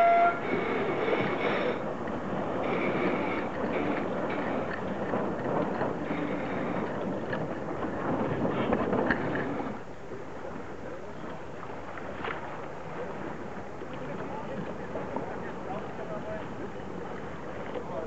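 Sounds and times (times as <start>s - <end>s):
rushing water: 0.0s - 18.0s
wind: 0.0s - 18.0s.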